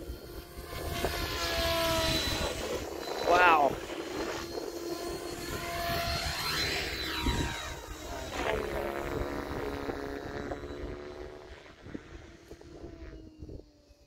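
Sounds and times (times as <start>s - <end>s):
model airplane motor whining: 0.0s - 14.0s.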